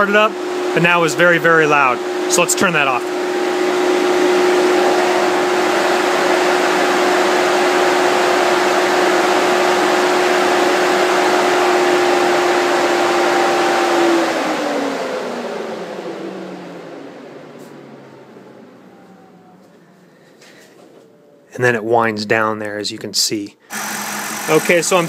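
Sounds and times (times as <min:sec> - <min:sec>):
cooling fan humming and winding down: 0:00.0 - 0:22.6, 0:23.6 - 0:25.0.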